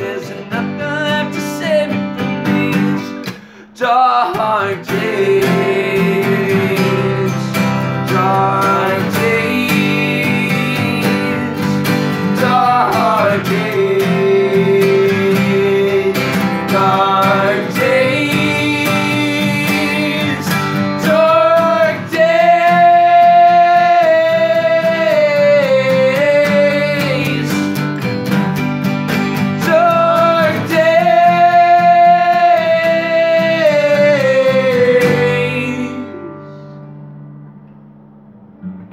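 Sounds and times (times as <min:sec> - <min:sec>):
two men singing: 0:00.0 - 0:27.8, 0:29.4 - 0:36.5
strummed acoustic guitars: 0:00.0 - 0:38.9.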